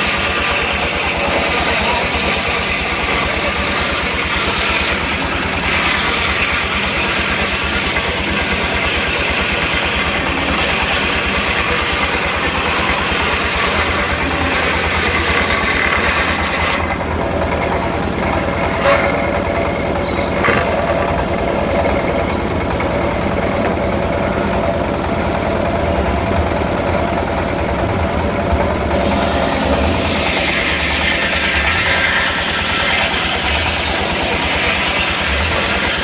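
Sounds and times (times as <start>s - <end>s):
sawmill engine running: 0.0s - 36.0s.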